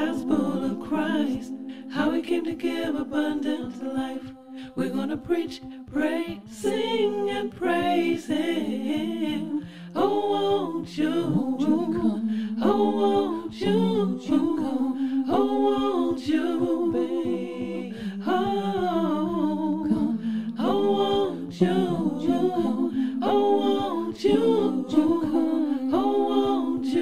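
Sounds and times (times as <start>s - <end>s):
vocal group humming: 0.0s - 4.1s, 8.3s - 27.0s.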